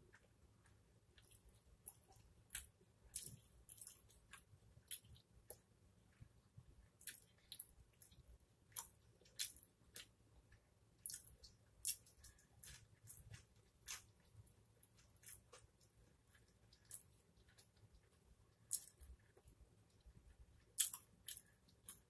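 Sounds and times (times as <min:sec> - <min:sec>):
mouth chewing food: 0:00.0 - 0:06.3, 0:06.9 - 0:22.0.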